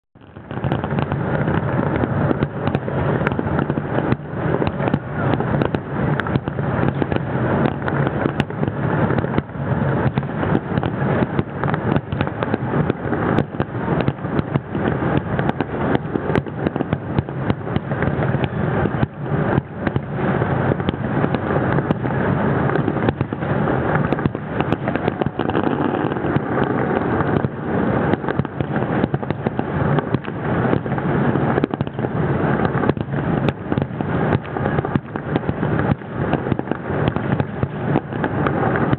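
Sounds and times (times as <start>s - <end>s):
fireworks rumble and crackle: 0.2s - 38.9s
fireworks shells bursting: 0.2s - 38.9s.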